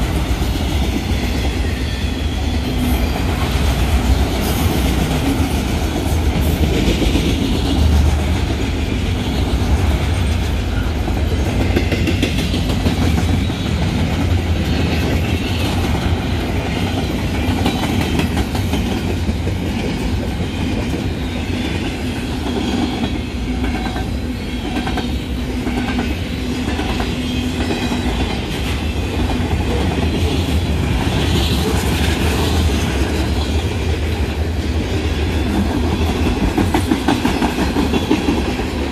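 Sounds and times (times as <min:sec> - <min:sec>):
train wheels running on rails: 0:00.0 - 0:38.9.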